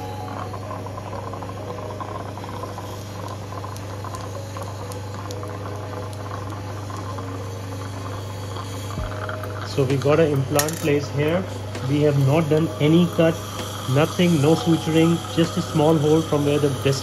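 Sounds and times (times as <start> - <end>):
dental suction hum: 0.0 - 10.5, 11.3 - 17.0.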